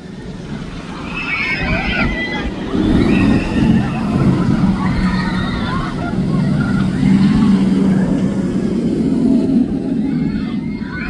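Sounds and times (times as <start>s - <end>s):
roller coaster train rumbling: 0.0s - 11.0s.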